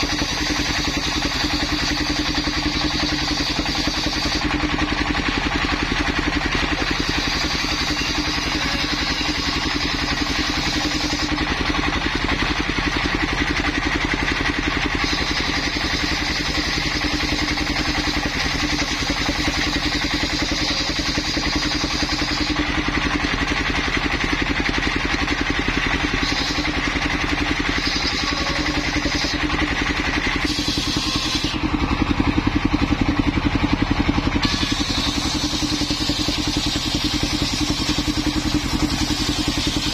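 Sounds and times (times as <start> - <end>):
circular saw engine running: 0.0 - 39.9
saw blade whining through wood: 0.0 - 39.9.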